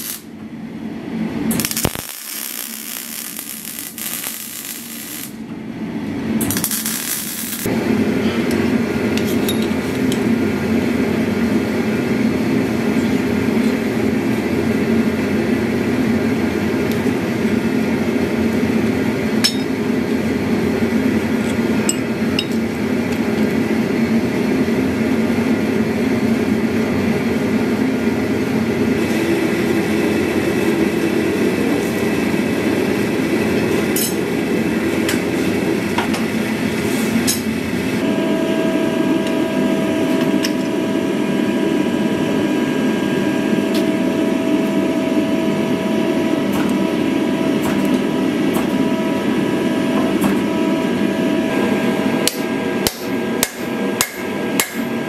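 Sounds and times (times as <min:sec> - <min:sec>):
gas forge burner roaring: 0:00.0 - 0:55.0
multi-tone machine hum: 0:00.0 - 0:55.0.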